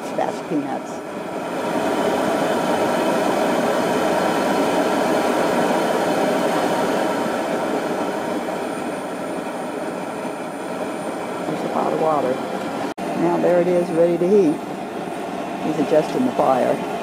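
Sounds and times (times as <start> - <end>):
gas burner flame rushing: 0.2 - 17.0.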